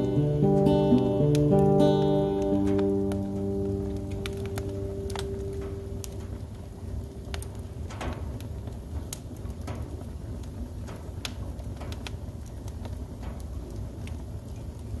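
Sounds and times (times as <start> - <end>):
fire crackling and popping: 0.0 - 15.0
low steady rumble: 0.0 - 15.0.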